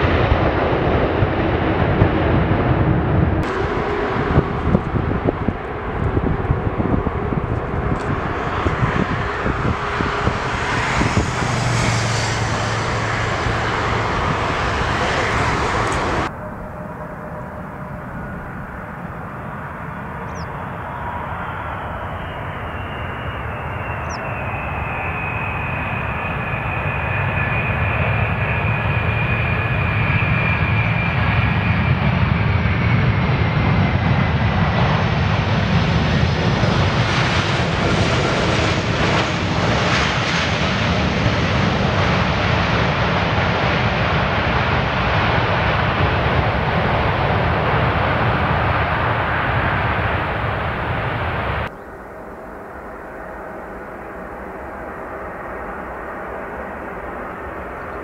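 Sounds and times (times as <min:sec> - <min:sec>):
jet engine whine: 0:00.0 - 0:58.0
low jet rumble: 0:00.0 - 0:58.0.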